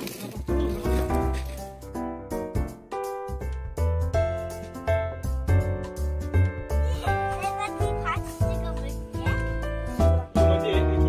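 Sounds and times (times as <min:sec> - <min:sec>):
held instrumental notes: 0:00.4 - 0:11.0
deep bass: 0:01.9 - 0:11.0.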